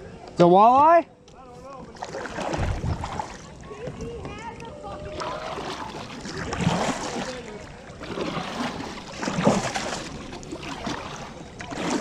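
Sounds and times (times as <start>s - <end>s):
water splashing around kayak: 1.7s - 12.0s.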